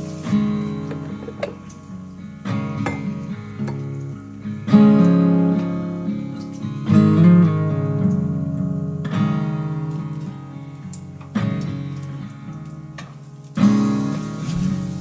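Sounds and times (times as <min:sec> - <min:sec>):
acoustic guitar strumming chords: 0:00.0 - 0:14.8.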